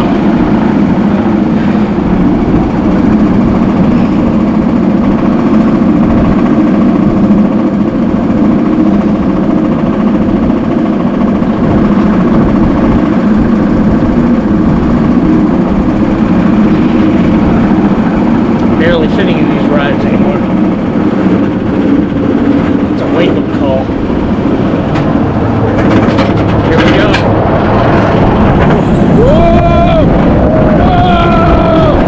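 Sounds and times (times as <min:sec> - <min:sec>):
roller coaster train rumbling: 0:00.0 - 0:32.0.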